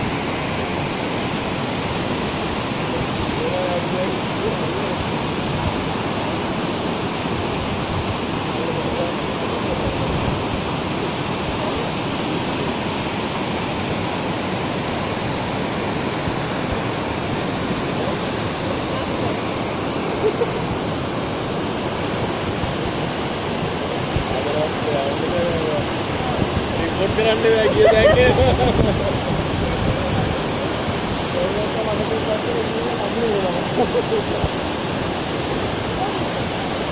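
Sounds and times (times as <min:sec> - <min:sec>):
white water rushing: 0:00.0 - 0:36.9.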